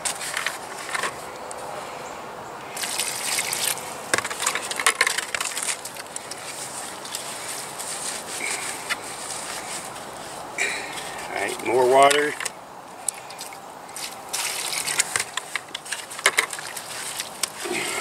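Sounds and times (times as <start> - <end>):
stick scraping through wet cement: 0.0 - 1.3, 2.8 - 12.4, 13.2 - 18.0.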